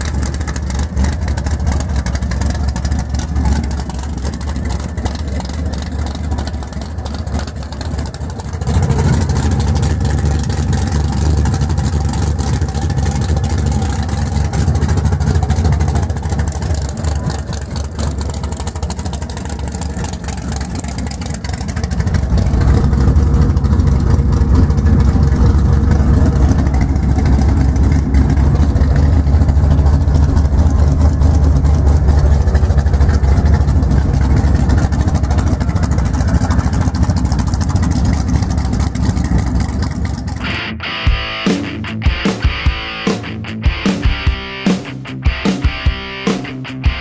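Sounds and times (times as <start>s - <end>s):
car engine deep rumble: 0.0s - 47.0s.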